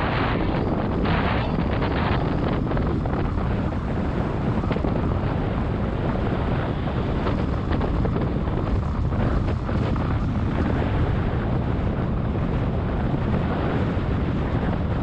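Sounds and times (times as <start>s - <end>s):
vehicle noise: 0.0s - 15.0s
wind buffeting microphone: 0.0s - 15.0s.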